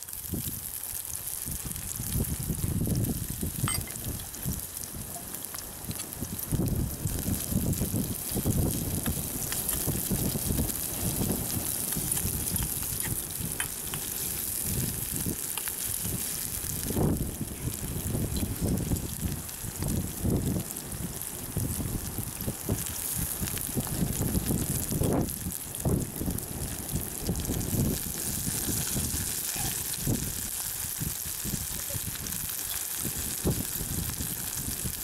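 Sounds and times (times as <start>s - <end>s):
onions frying in oil: 0.0s - 35.0s.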